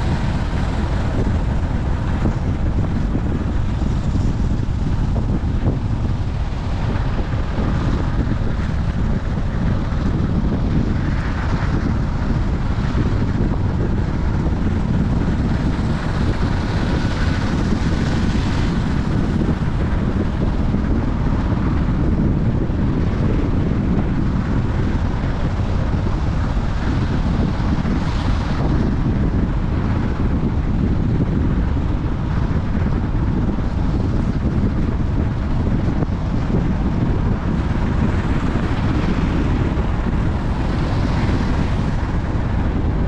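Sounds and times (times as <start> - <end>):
vehicle road noise: 0.0 - 43.0
wind buffeting microphone: 0.0 - 43.0.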